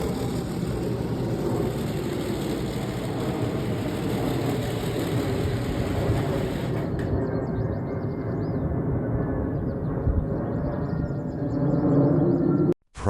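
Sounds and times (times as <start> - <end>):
jet engines rumbling: 0.0 - 12.6.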